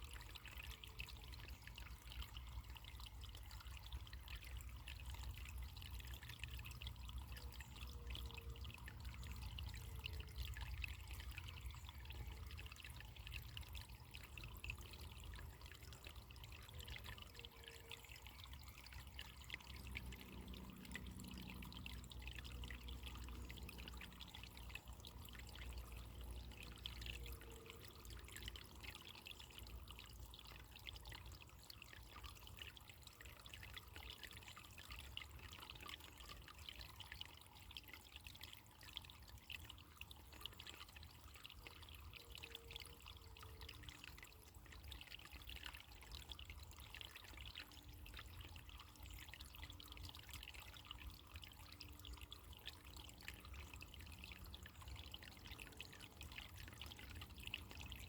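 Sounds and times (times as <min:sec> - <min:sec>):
stream trickling: 0:00.0 - 0:58.0.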